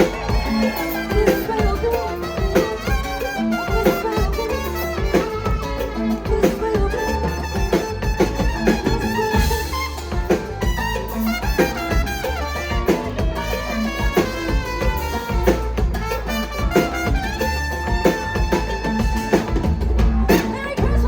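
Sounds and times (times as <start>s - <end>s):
latin pop band playing: 0.0s - 21.0s.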